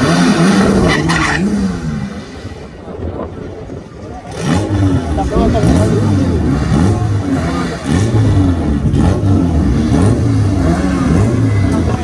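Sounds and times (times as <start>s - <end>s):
drag car engine revving: 0.0s - 2.7s, 4.1s - 12.0s.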